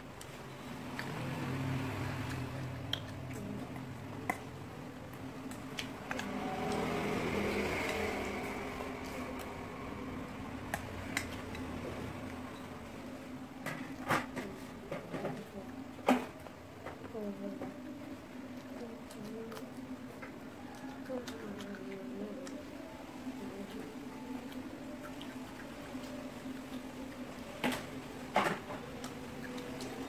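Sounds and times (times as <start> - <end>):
low background noise: 0.0 - 30.0.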